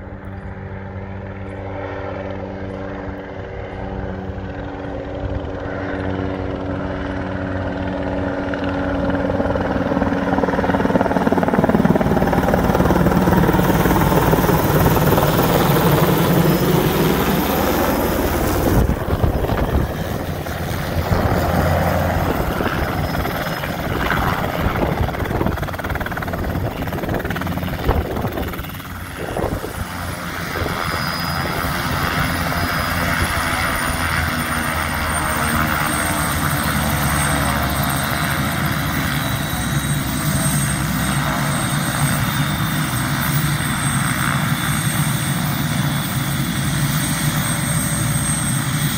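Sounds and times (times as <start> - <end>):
helicopter rotor beating: 0.0 - 48.9
turbine whine: 0.0 - 48.9.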